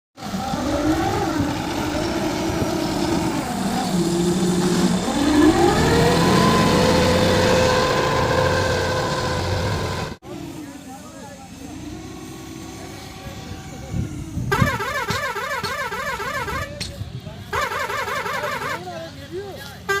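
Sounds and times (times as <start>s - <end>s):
vehicle engine revving: 0.2s - 19.0s.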